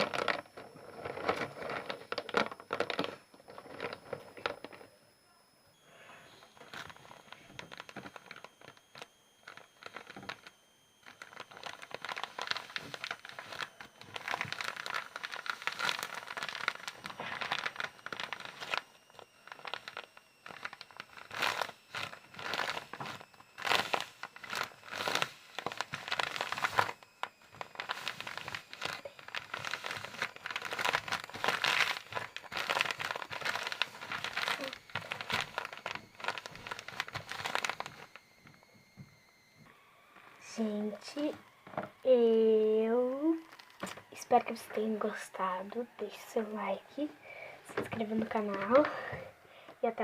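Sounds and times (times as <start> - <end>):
crinkly material crumpled by hand: 0.0 - 5.0, 6.3 - 50.0.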